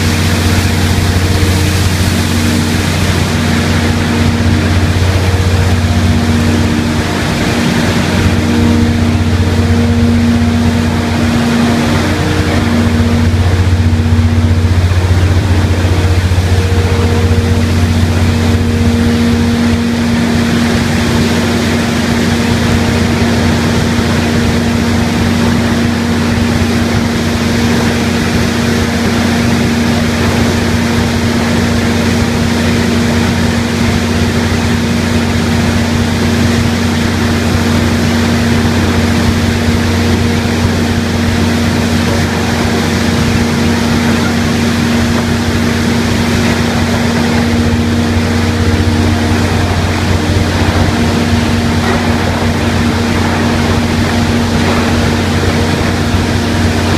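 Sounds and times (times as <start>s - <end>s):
recycling machine hum: 0.0s - 56.9s.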